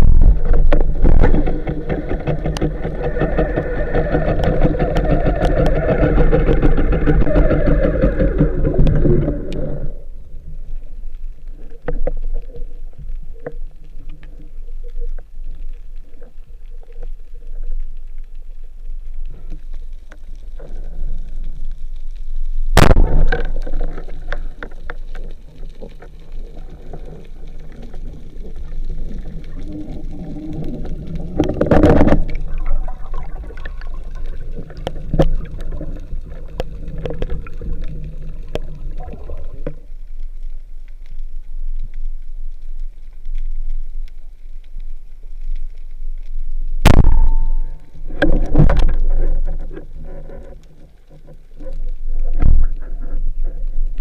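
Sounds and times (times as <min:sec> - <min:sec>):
clicks and crackles: 0:00.0 - 0:54.0
underwater low rumble: 0:00.0 - 0:54.0.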